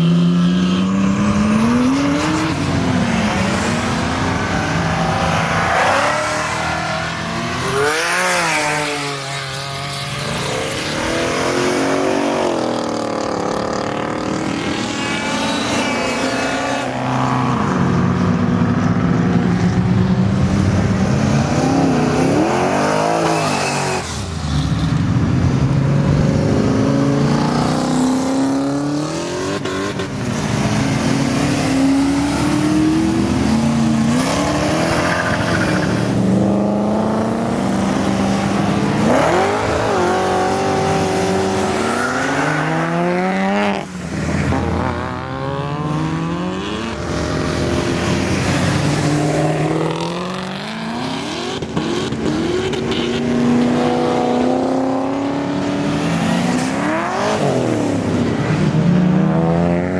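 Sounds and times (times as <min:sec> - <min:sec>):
race cars revving past: 0:00.0 - 0:59.9.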